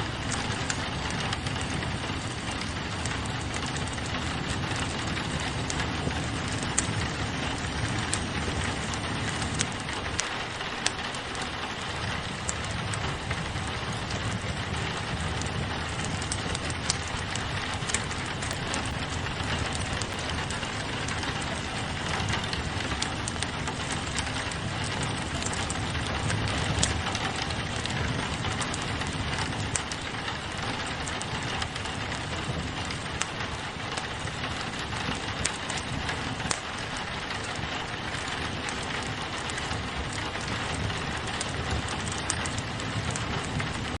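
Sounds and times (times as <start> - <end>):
rain pattering on a window: 0.0 - 44.0
wood fire crackling: 0.0 - 44.0.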